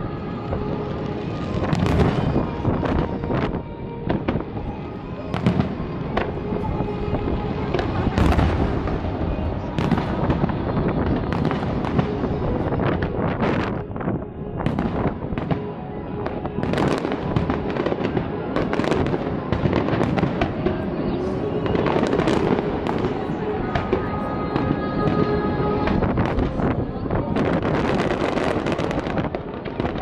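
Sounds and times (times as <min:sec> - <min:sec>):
fireworks bursting with bangs: 0:00.0 - 0:30.0
fireworks rumble and crackle: 0:00.0 - 0:30.0.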